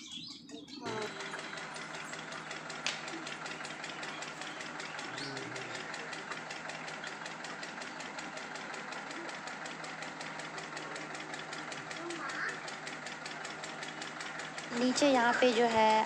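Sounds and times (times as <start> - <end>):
flour mill machine running: 0.8 - 16.0.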